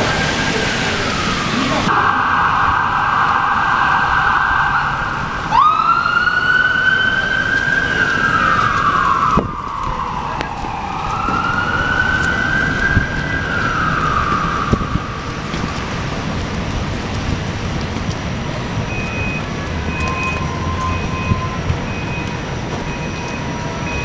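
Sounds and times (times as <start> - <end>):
emergency vehicle siren: 0.0 - 24.0
traffic on wet road: 0.0 - 24.0.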